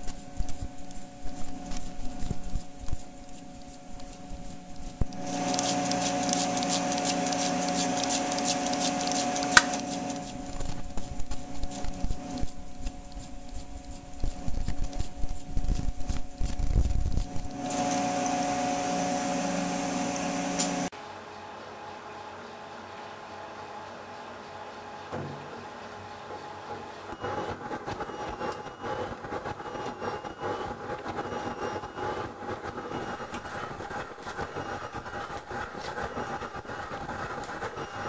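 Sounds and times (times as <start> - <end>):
drilling machine humming and whining: 0.0 - 20.9, 25.8 - 38.0.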